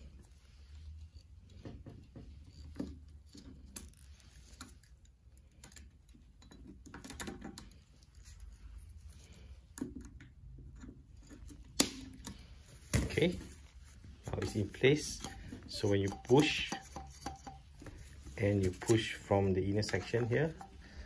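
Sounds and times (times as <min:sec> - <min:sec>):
small metallic clicks and scrapes: 0:00.0 - 0:21.0.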